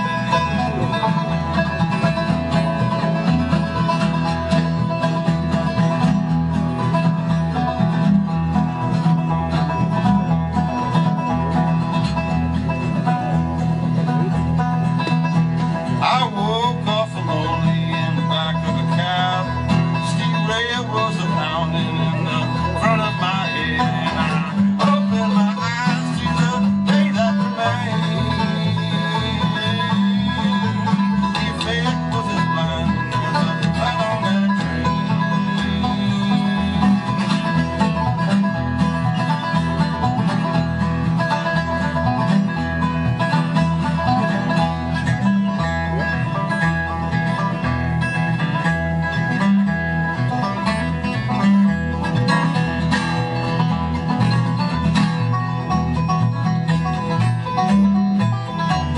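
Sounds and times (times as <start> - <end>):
acoustic guitar: 0.0 - 58.9
quick banjo picking: 0.0 - 58.9
upright bass line: 0.0 - 58.9.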